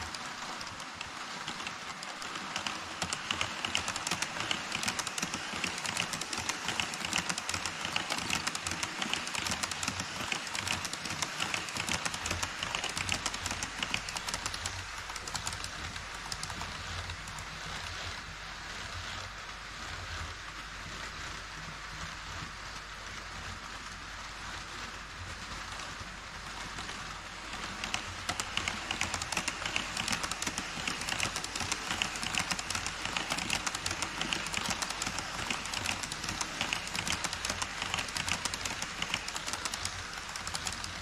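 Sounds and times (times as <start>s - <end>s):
model train wheels clattering: 0.0s - 41.0s.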